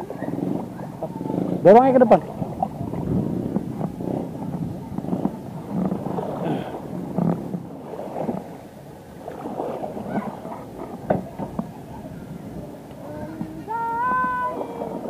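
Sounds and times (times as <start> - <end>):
paddle sloshing and splashing water: 0.0 - 15.0.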